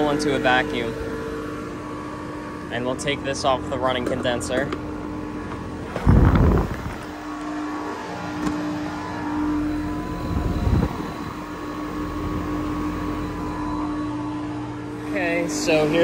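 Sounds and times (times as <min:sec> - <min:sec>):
air conditioner fan humming: 0:00.0 - 0:16.0.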